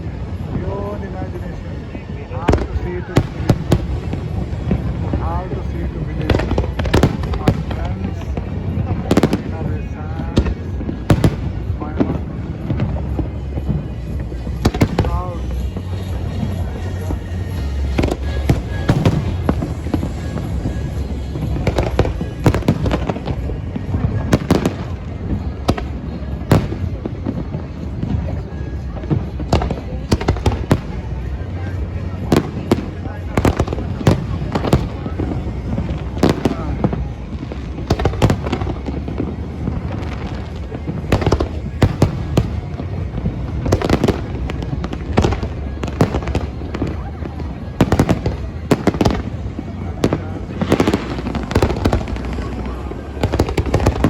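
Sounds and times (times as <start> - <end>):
fireworks bangs and crackles: 0.0 - 54.0
low rumble: 0.0 - 54.0.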